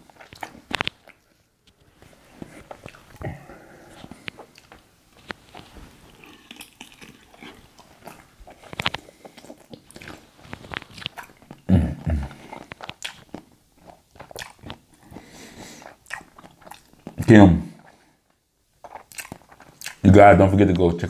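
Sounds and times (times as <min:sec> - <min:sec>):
person chewing and smacking: 0:00.0 - 0:20.2.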